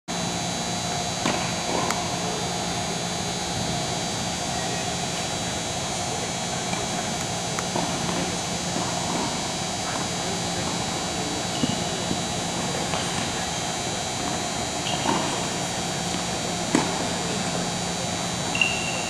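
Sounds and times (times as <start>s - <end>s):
indoor hall hum and hiss: 0.1s - 19.0s.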